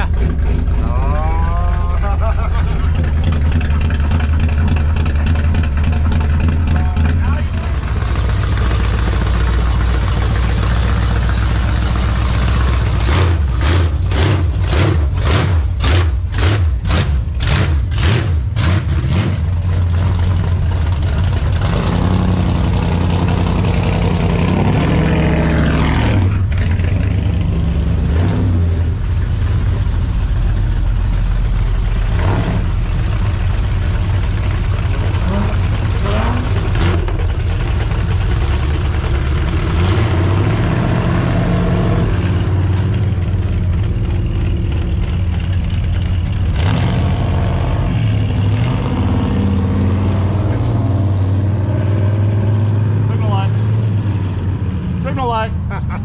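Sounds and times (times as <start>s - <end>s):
pickup truck engine accelerating: 0.0s - 56.0s.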